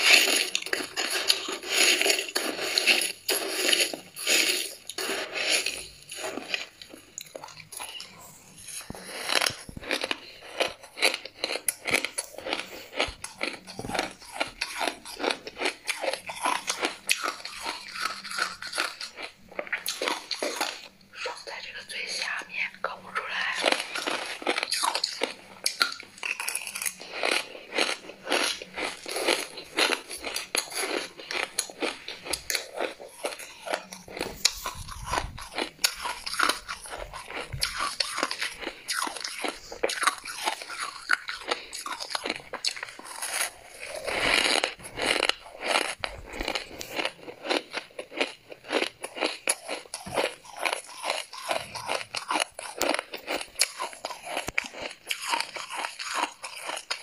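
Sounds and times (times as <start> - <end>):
crunching frost between teeth: 0.0 - 22.4, 23.2 - 57.0.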